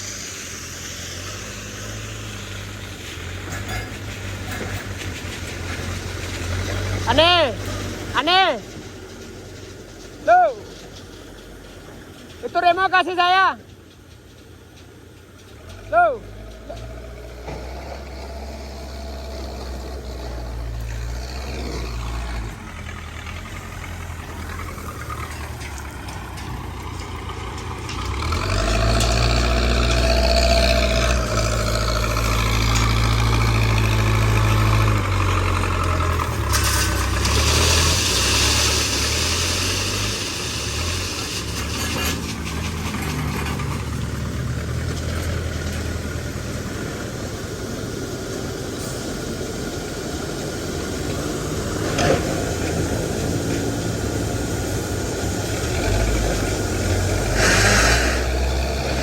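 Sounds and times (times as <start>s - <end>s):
rushing hiss: 0.0s - 12.3s, 15.7s - 59.0s
diesel engine running: 0.0s - 59.0s.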